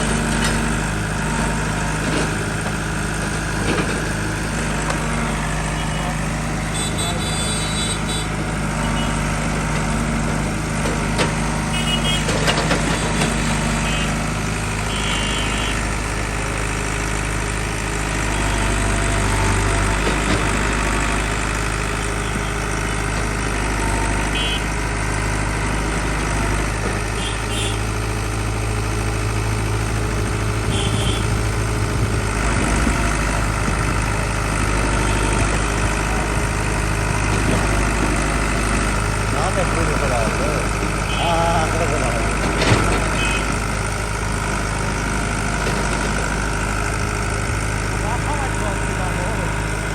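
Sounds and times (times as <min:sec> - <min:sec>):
heavy diesel engine idling: 0:00.0 - 0:49.9.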